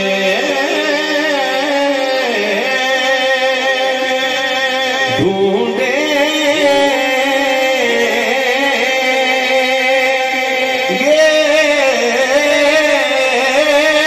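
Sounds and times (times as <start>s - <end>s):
man singing over loudspeaker: 0.0s - 14.0s.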